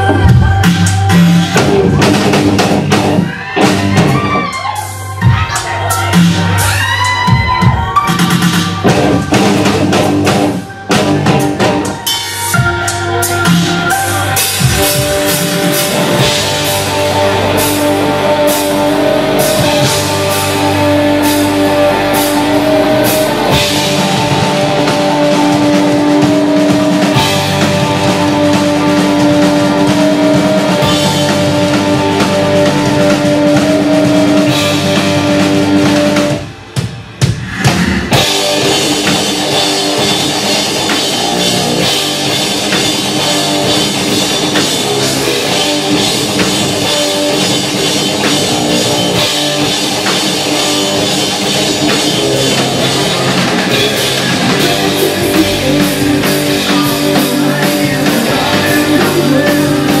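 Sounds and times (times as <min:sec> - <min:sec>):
bass guitar: 0:00.0 - 1:00.0
drum kit: 0:00.0 - 1:00.0
electric guitars: 0:00.0 - 1:00.0.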